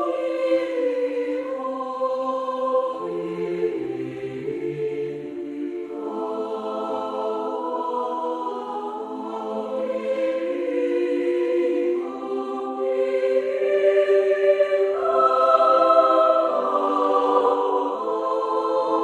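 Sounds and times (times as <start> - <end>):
choir singing slow chords: 0.0 - 19.0.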